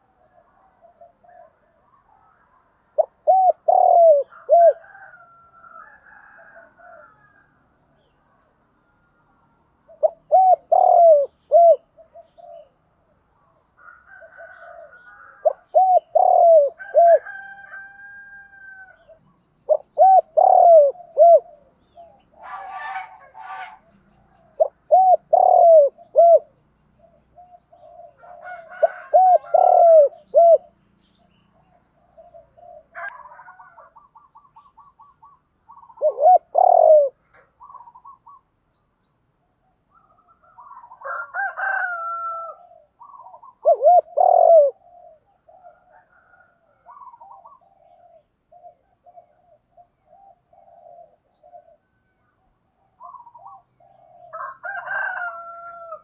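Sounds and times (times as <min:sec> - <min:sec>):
dove cooing: 0:00.0 - 0:07.4, 0:09.8 - 0:13.2, 0:13.8 - 0:38.5, 0:39.5 - 0:56.0
faint bird calls: 0:08.0 - 0:17.8, 0:18.6 - 0:41.4, 0:42.2 - 0:56.0.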